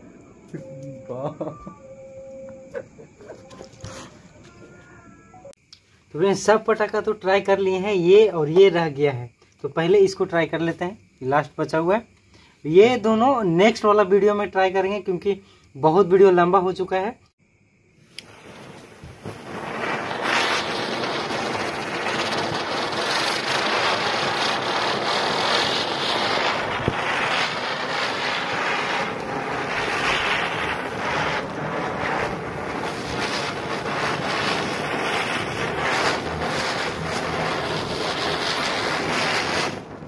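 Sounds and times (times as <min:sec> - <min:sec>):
spinner firecracker fizzing hiss: 0:02.7 - 0:14.5, 0:17.4 - 0:40.0.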